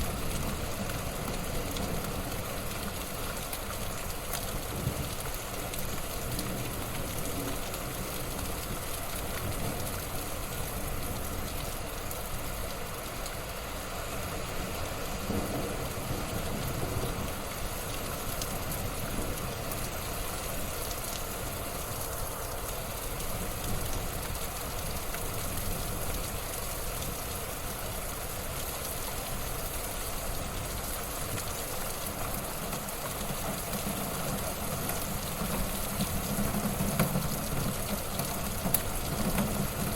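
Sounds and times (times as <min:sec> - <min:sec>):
wood fire crackling and hissing: 0:00.0 - 0:39.9.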